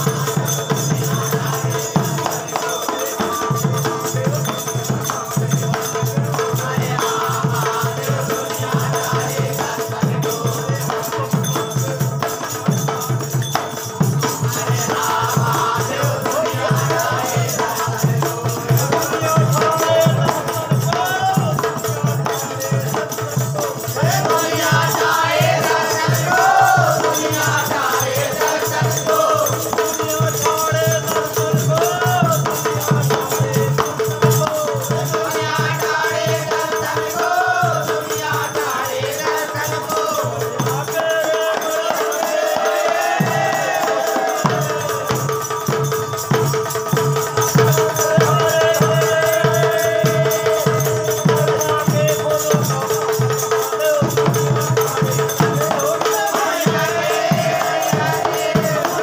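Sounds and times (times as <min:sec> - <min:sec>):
old man singing folk song: 0:00.0 - 0:46.3, 0:46.9 - 0:59.0
jingling percussion: 0:00.0 - 0:59.0
steady drum beat: 0:00.0 - 0:59.0.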